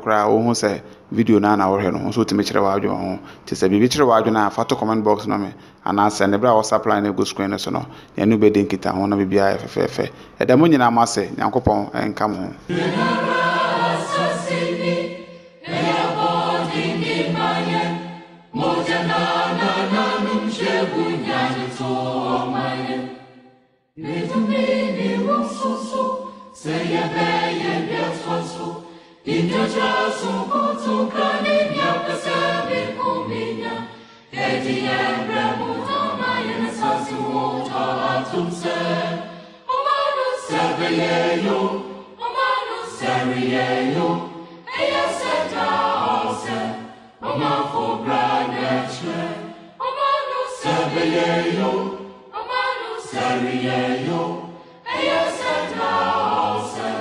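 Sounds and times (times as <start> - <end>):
voices singing: 11.4 - 57.0.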